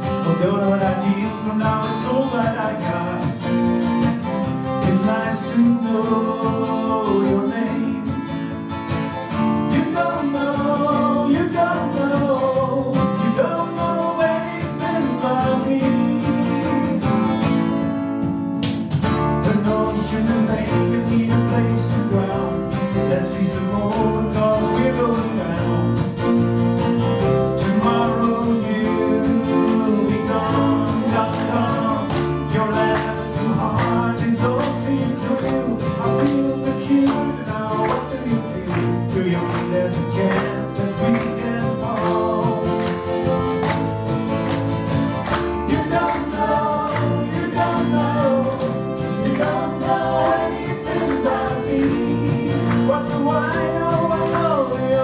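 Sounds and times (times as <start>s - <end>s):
people singing: 0.0s - 8.6s, 9.3s - 17.6s, 19.2s - 26.2s, 27.2s - 55.0s
acoustic band playing: 0.0s - 55.0s
guitar: 0.0s - 55.0s.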